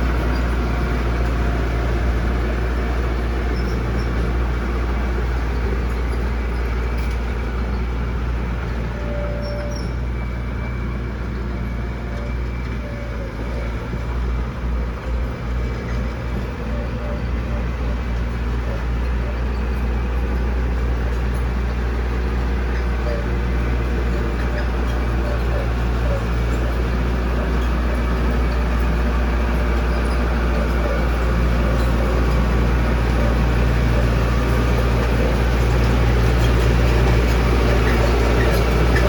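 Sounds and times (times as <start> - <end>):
diesel machinery engine droning: 0.0 - 39.0.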